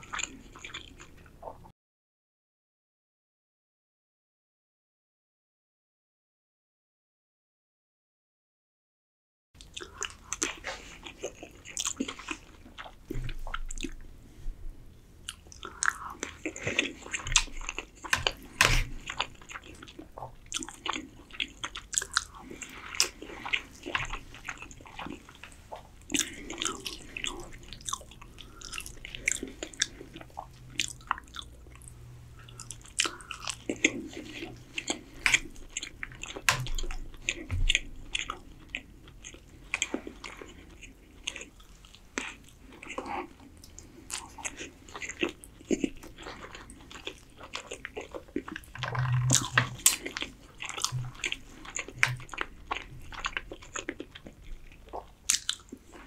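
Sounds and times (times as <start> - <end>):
man chewing food: 0.0 - 1.7, 9.6 - 56.0.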